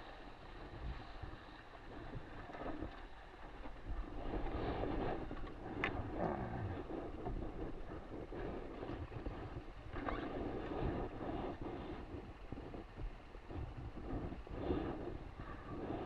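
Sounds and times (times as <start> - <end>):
water rushing along a hull: 0.0 - 16.0
wind buffeting microphone: 0.0 - 16.0.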